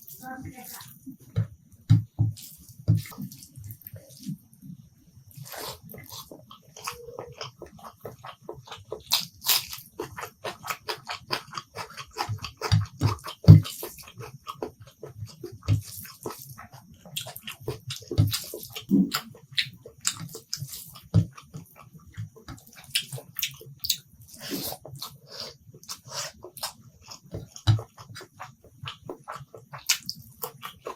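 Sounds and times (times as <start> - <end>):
wet chewing and lip-smacking: 5.3 - 30.9.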